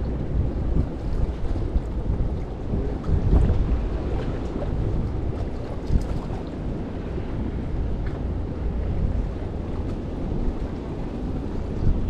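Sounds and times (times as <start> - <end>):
sea washing: 0.0 - 12.0
wind rumble on microphone: 0.0 - 12.0.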